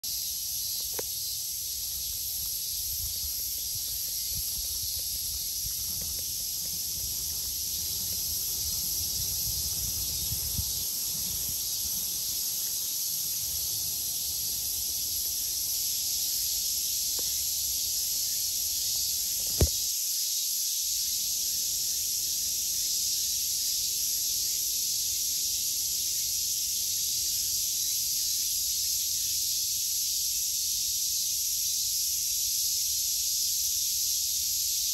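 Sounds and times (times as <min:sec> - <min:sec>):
cicadas droning: 0:00.0 - 0:34.9.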